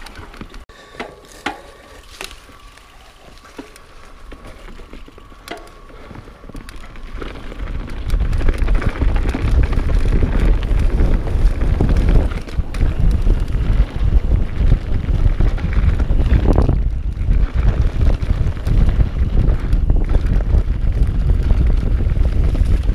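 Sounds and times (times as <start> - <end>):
bike clicks and rattles: 0.0 - 22.9
wind buffeting microphone: 3.2 - 22.9.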